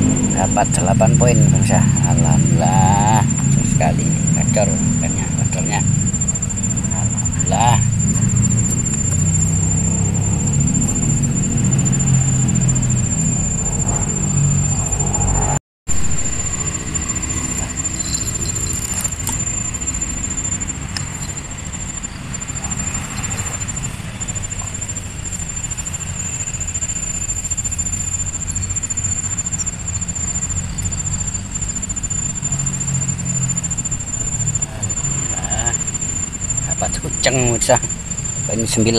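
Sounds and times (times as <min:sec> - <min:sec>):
low rumble: 0:00.0 - 0:38.8
high-pitched whine: 0:00.0 - 0:38.9.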